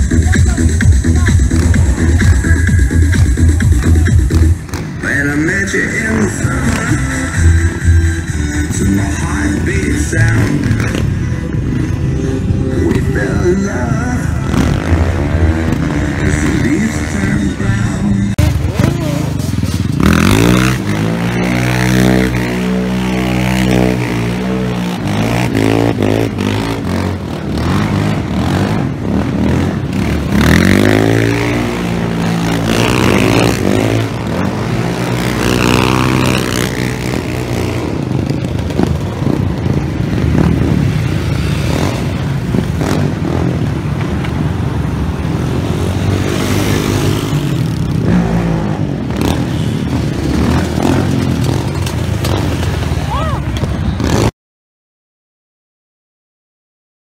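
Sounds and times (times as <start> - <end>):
quad engine revving hard: 0.0 - 43.9, 45.3 - 52.6
engines running in background: 0.0 - 54.3.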